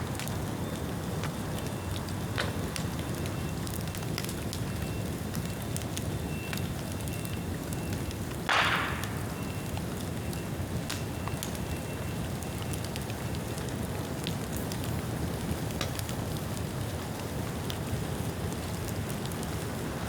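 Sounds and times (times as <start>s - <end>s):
bonfire burning and crackling: 0.0s - 20.0s.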